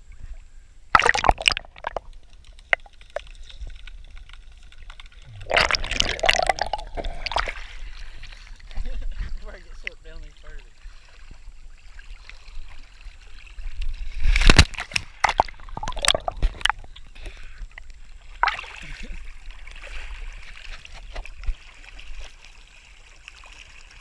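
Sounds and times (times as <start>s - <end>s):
creek water sloshing and splashing: 1.0s - 3.6s, 4.4s - 17.1s, 18.1s - 24.0s.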